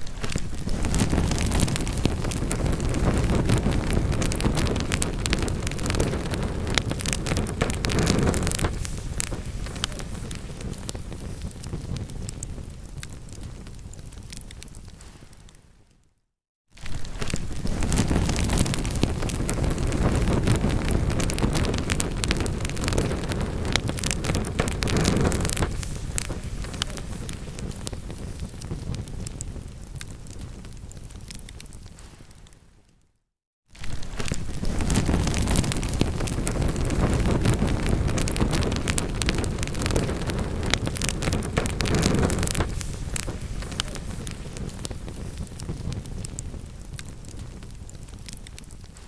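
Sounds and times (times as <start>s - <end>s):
low rush of flames: 0.0s - 15.6s, 16.8s - 32.6s, 33.8s - 49.0s
wood fire crackling and popping: 0.0s - 15.9s, 16.8s - 33.0s, 33.8s - 49.0s.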